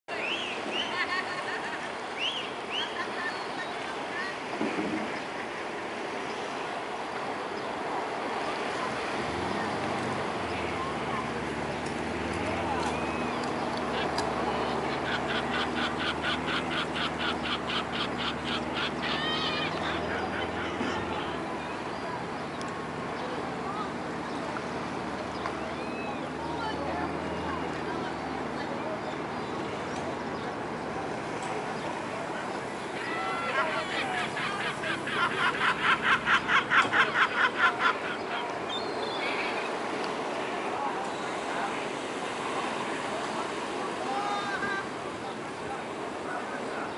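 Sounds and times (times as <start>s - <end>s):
gulls calling: 8.4s - 28.2s, 29.1s - 46.9s.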